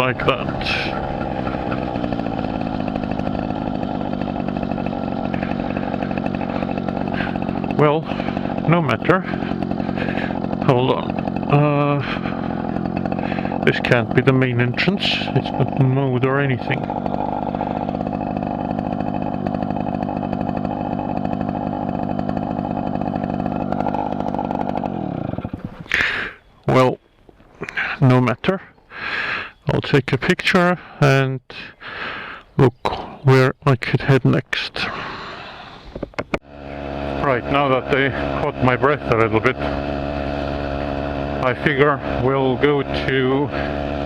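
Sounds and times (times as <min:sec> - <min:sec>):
moped engine buzzing: 0:00.0 - 0:28.0, 0:34.8 - 0:44.0.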